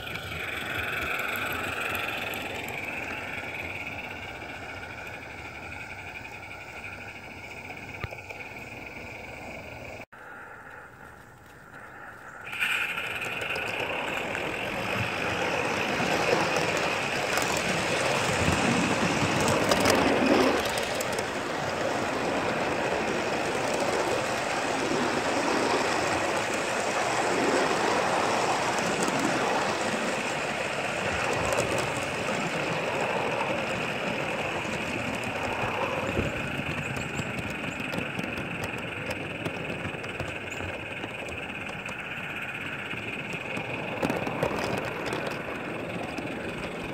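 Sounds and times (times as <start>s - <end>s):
constant hiss: 0.0s - 46.9s
wheels rattling on rails: 0.0s - 46.9s.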